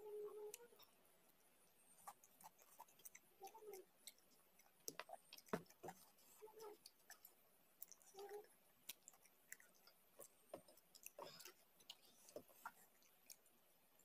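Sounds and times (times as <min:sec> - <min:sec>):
soft chewing: 0:00.0 - 0:14.0.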